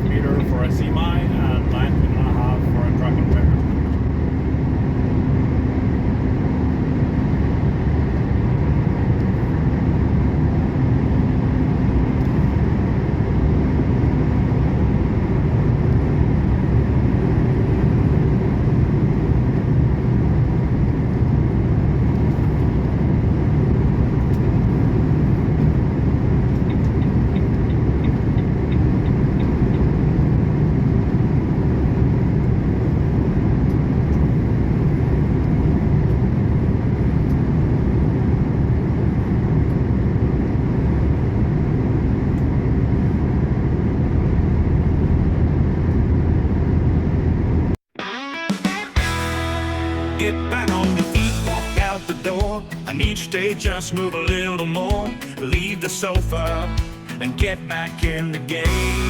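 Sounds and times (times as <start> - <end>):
road noise: 0.0 - 47.8, 48.9 - 59.0
truck engine drone: 0.0 - 47.8, 48.6 - 59.0.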